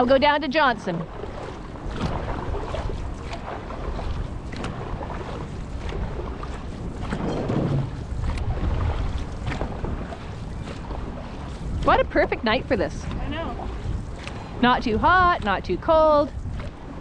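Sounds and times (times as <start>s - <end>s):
paddles striking water: 0.0s - 17.0s
wind on microphone: 0.0s - 17.0s.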